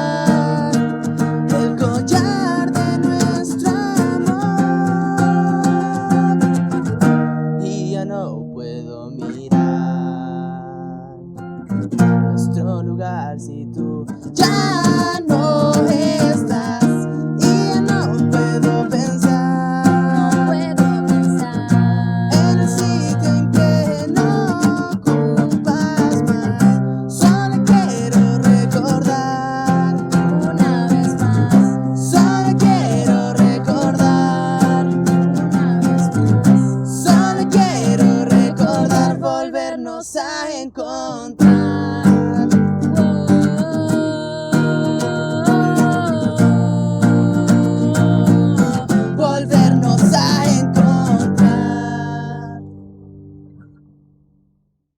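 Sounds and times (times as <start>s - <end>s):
person singing: 0.0s - 52.7s
strummed acoustic guitar: 0.0s - 54.4s.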